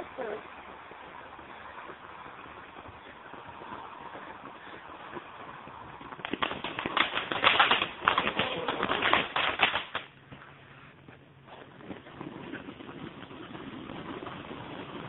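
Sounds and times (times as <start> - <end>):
ground fireworks crackling: 0.0 - 15.0.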